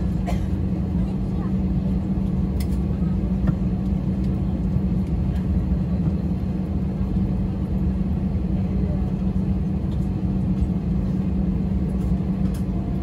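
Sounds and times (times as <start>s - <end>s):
jet engines idling in cabin: 0.0s - 13.0s.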